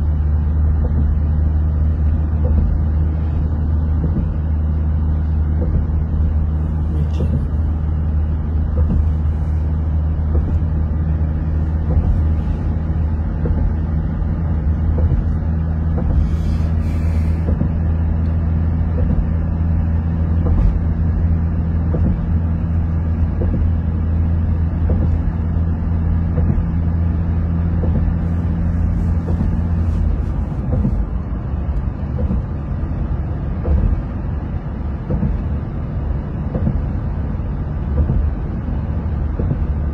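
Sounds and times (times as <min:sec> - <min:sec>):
vehicle driving on highway: 0:00.0 - 0:39.9.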